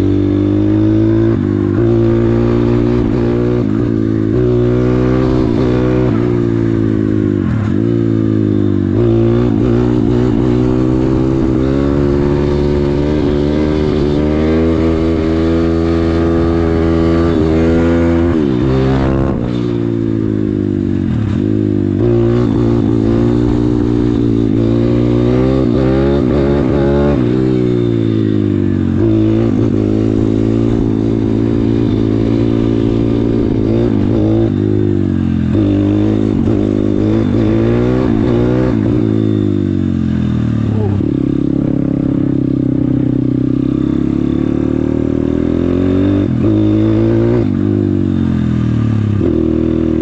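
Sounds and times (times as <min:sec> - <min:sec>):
motorbike engine revving: 0:00.0 - 0:50.0.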